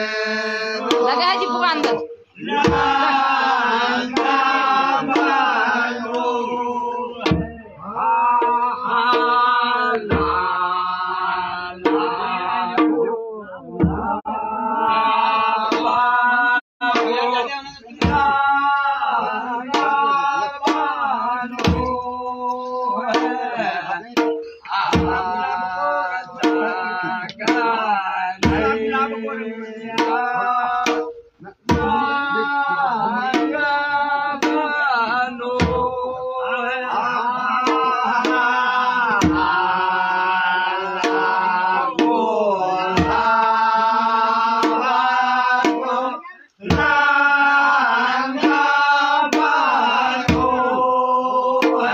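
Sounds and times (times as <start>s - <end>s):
dhol drum beating: 0.0s - 14.2s, 16.8s - 51.9s
men singing folk song: 0.0s - 51.9s.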